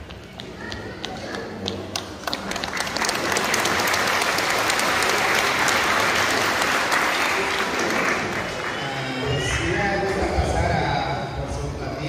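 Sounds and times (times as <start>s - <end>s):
crowd clapping: 0.0s - 10.3s.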